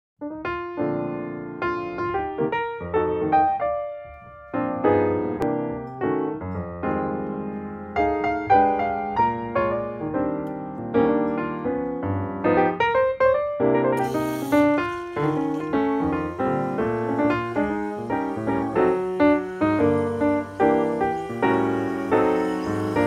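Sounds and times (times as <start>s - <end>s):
piano music: 0.2s - 23.0s.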